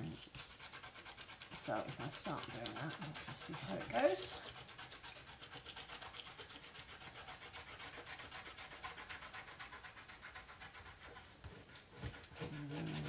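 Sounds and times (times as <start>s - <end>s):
fingertips rubbing paper: 0.0s - 13.0s.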